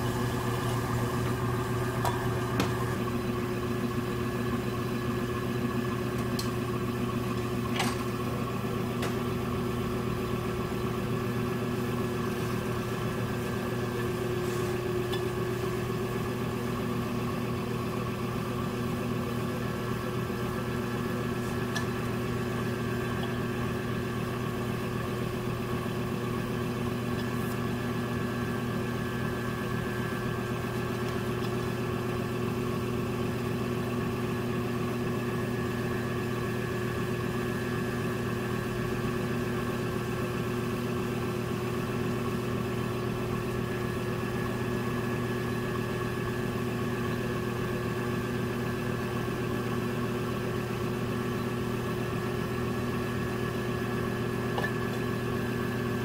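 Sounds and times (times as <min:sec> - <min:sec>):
potter's wheel motor humming: 0:00.0 - 0:56.0.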